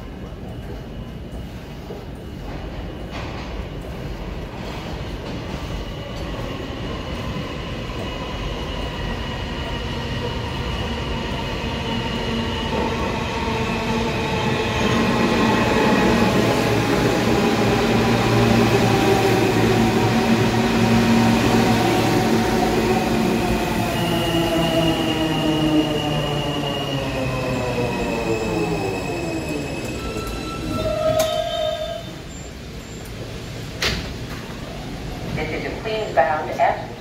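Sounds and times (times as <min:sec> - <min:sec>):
subway train rumbling: 0:00.0 - 0:37.0.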